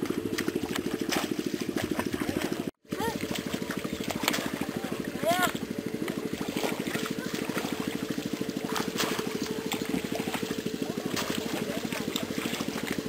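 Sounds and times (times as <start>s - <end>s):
small engine running: 0.0s - 13.0s
stick splashing in muddy water: 0.0s - 13.0s.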